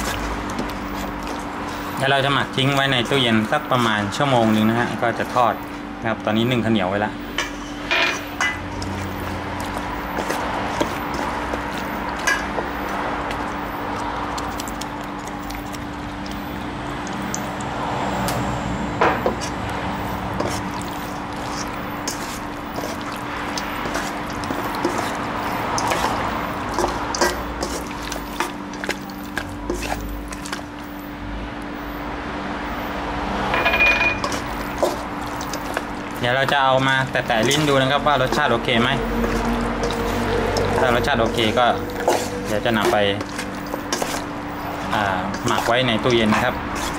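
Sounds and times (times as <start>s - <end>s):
wet squelching: 0.0s - 5.8s, 8.2s - 32.0s, 34.2s - 46.9s.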